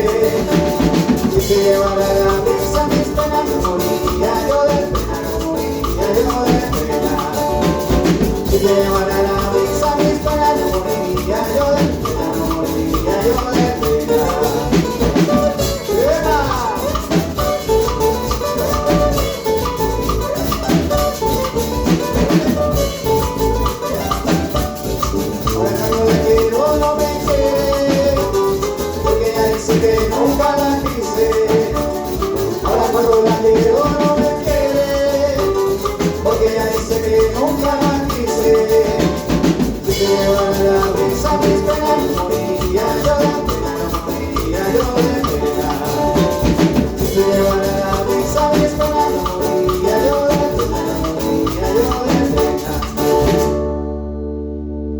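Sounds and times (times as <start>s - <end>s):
steady percussion: 0.0s - 53.7s
melodic lead line: 0.0s - 54.9s.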